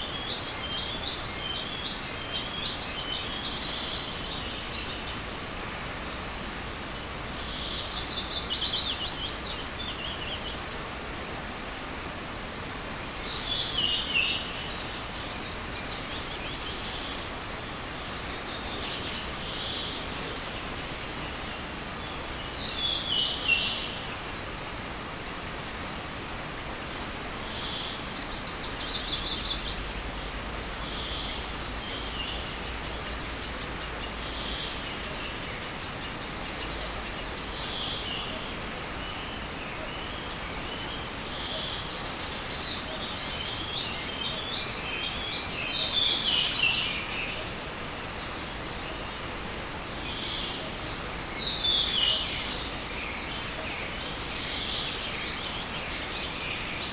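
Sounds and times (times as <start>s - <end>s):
songbirds singing: 0.0s - 25.2s, 27.2s - 56.9s
stream rushing: 0.0s - 56.9s.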